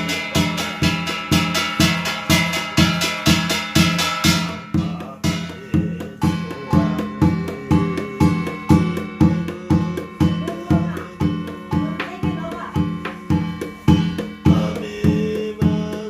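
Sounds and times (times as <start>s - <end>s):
drum beating steadily: 0.0s - 16.0s.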